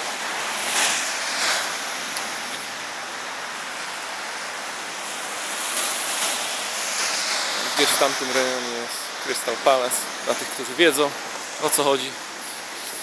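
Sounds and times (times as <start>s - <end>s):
traffic hiss on wet street: 0.0s - 13.0s
tyres on wet asphalt: 0.0s - 13.0s.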